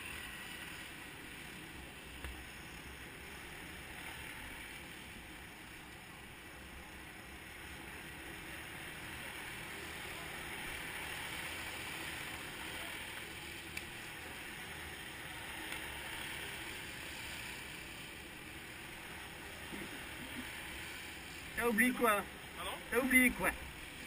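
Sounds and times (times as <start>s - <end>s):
muffled go-kart engines droning: 0.0s - 24.0s.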